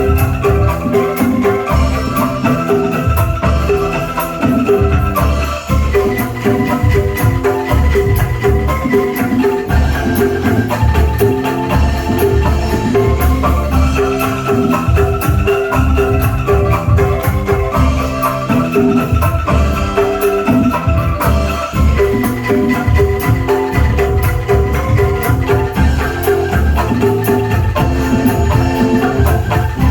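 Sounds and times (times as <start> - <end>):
bamboo ensemble music: 0.0 - 29.9
heavy bass notes: 0.0 - 29.9.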